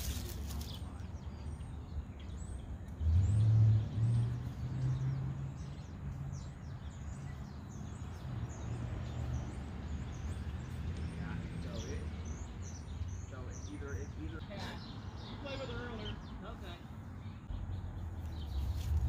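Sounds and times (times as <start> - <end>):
small birds chirping: 0.0 - 19.0
vehicle engine hum: 0.0 - 19.0.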